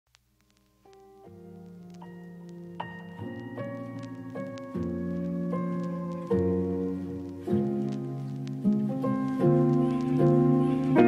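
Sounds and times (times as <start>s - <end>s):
soft instrumental music: 0.8s - 11.0s.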